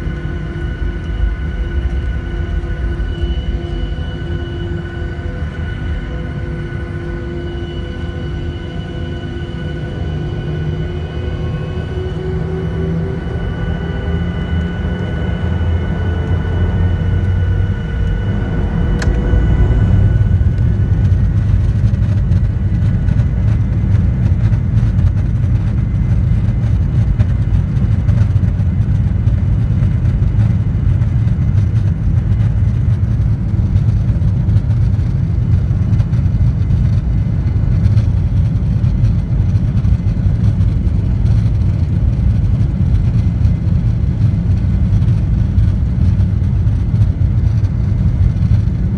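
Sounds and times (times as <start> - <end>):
jet engine rush and rumble: 0.0 - 48.9
jet engines whining: 0.0 - 48.9.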